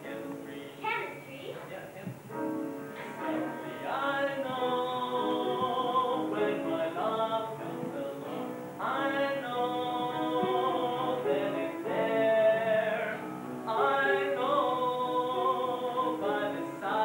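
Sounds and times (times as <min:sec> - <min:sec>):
young man singing: 0:03.1 - 0:17.0.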